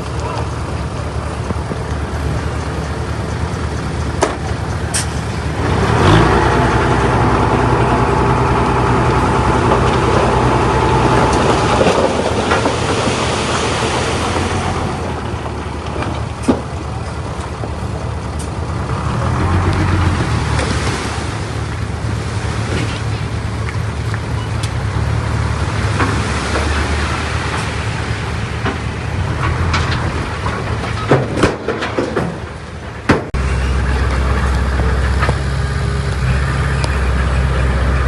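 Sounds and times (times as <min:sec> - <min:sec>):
heavy diesel machinery engine: 0:00.0 - 0:38.0.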